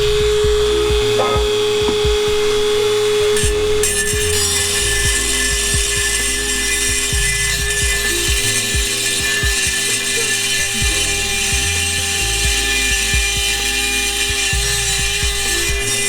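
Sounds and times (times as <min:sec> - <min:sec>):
rotary tool grinding metal: 0:00.0 - 0:16.0.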